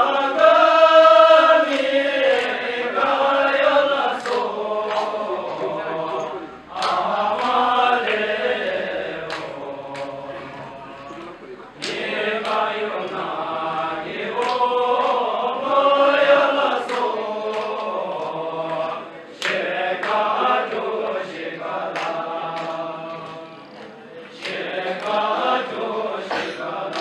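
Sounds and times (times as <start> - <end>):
men singing in unison: 0.0 - 27.0
sharp hand clap: 1.6 - 27.0.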